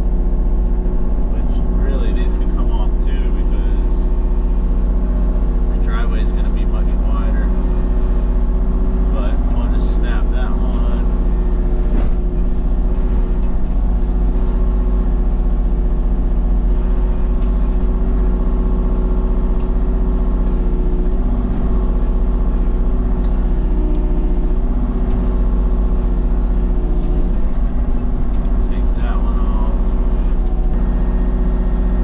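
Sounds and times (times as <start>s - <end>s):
digging machine engine running: 0.0s - 32.0s.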